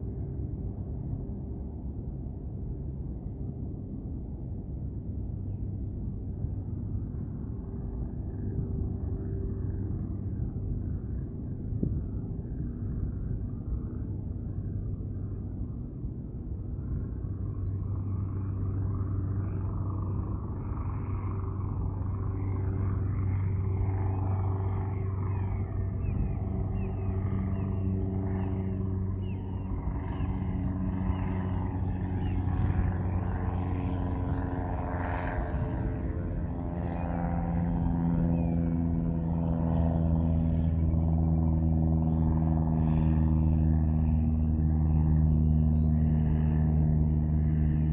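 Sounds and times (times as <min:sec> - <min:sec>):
aircraft engine drone: 0:00.0 - 0:47.9.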